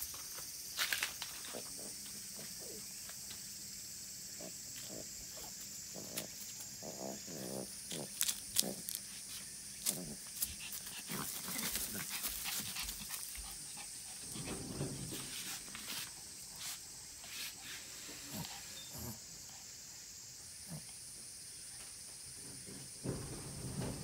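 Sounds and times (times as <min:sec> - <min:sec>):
steady high hiss: 0:00.0 - 0:24.0.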